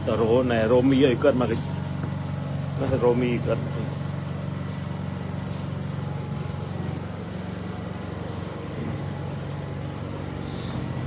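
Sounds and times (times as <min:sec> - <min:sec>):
engine running with low drone: 0:00.0 - 0:11.0.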